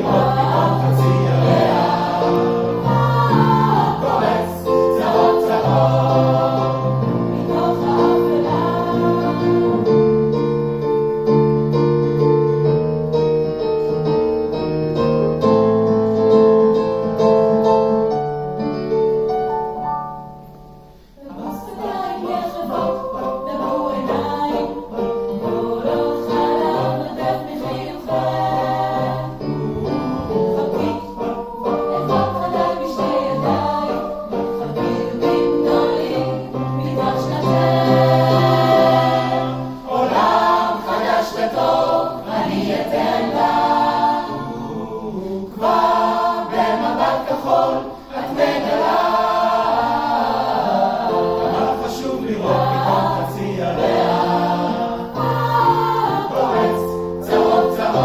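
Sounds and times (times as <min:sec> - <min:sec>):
choir singing layered chords: 0:00.0 - 0:12.8, 0:13.6 - 0:58.0.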